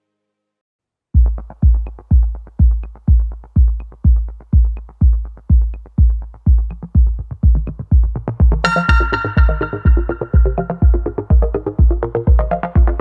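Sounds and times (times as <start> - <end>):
electronic dance music: 1.2 - 13.0
heavy kick drum: 1.2 - 13.0.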